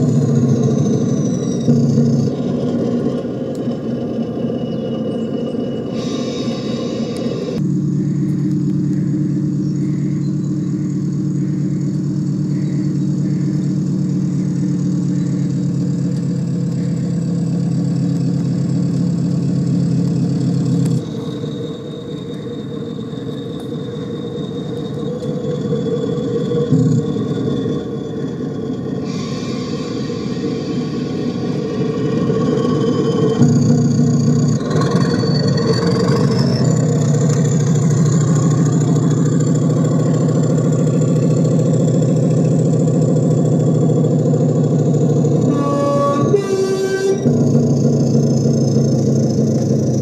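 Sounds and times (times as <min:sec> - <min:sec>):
model locomotive engine drone: 0:00.0 - 0:50.0.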